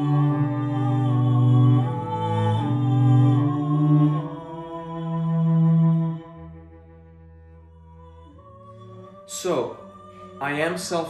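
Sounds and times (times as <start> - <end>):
bowed cello: 0.0 - 11.0
theremin: 0.0 - 11.0.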